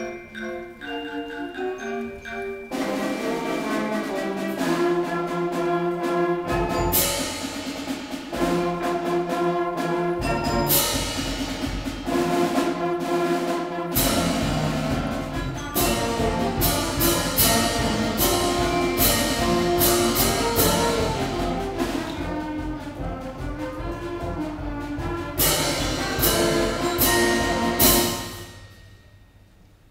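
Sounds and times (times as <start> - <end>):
concert band playing a march: 0.0 - 29.0
percussion strikes: 0.0 - 29.9.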